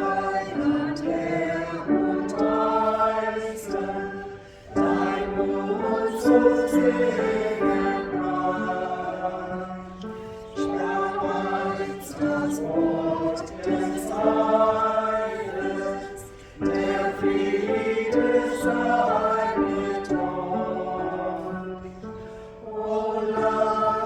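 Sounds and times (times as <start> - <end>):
church choir singing: 0.0 - 24.0.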